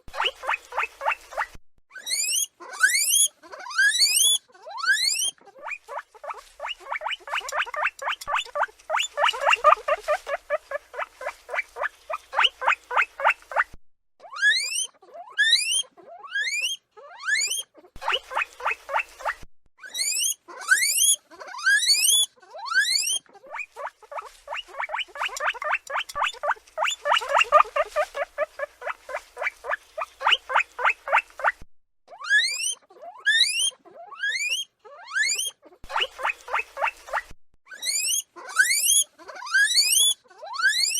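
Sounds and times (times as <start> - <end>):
guinea pig squeaking and wheeking: 0.0 - 40.9.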